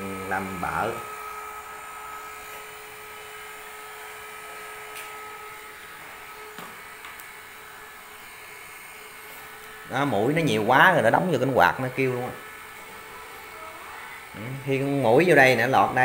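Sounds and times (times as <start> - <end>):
small fan whirring: 0.0 - 16.0.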